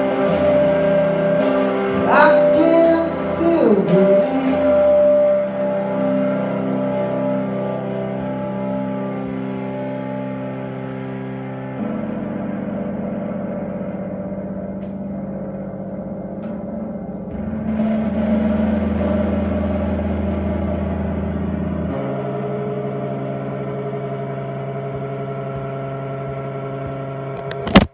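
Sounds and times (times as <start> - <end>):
droning chords through effects: 0.0 - 27.9.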